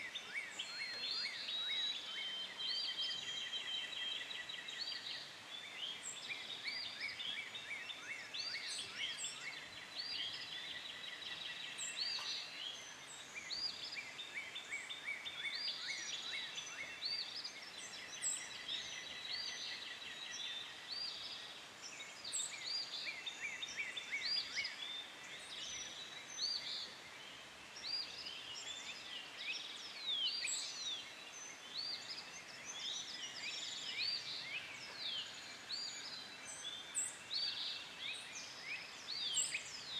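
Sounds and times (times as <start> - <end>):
faint outdoor background noise: 0.0 - 39.9
songbirds chirping and trilling: 0.0 - 39.9.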